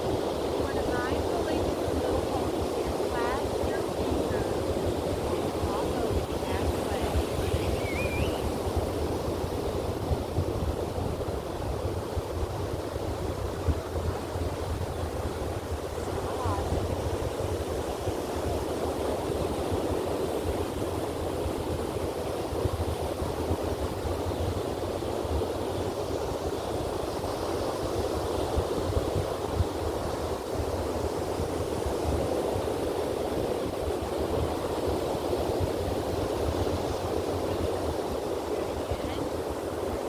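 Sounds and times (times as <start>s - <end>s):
ocean surf breaking on beach: 0.0s - 40.0s.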